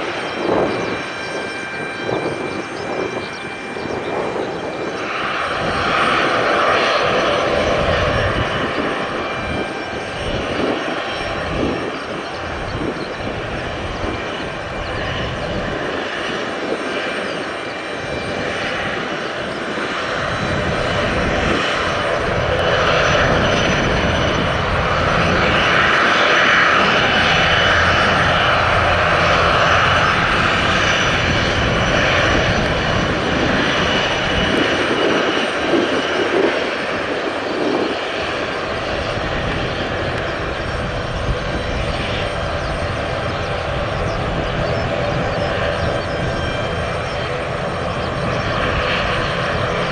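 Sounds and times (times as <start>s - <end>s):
airliner turbine engines whining: 0.0s - 49.9s
wind buffeting microphone: 0.0s - 49.9s.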